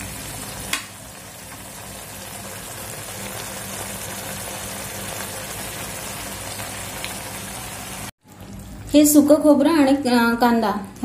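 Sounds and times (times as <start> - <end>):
gravy bubbling and sizzling: 0.0 - 10.2.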